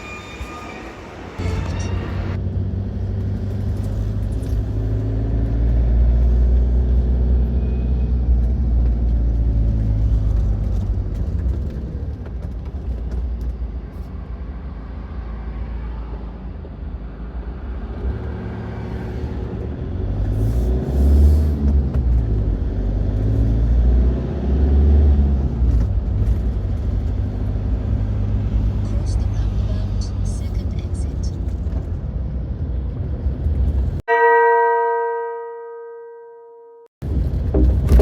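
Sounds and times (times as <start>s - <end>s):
road noise: 0.0s - 35.0s.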